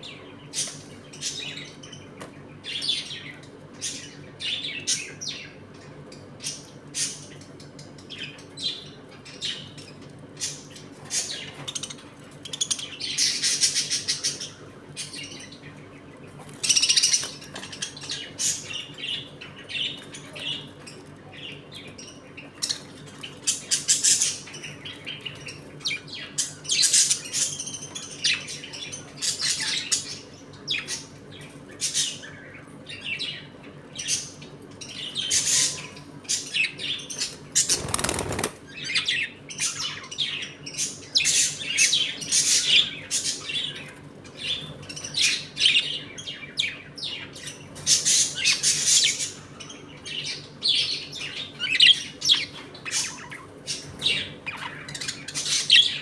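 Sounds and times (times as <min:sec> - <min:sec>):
budgerigars chattering warble: 0:00.0 - 0:56.0
budgerigars chirping: 0:08.1 - 0:56.0.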